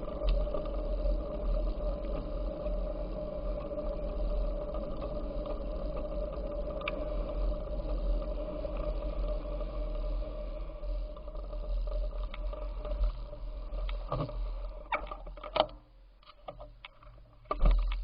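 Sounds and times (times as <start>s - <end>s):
bicycle rolling noise: 0.0s - 18.0s
steady hum: 0.0s - 18.0s.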